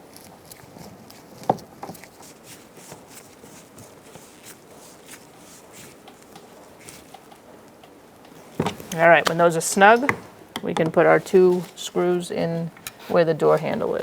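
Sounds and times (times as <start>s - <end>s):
tool and plastic trim rustling: 0.1s - 14.0s.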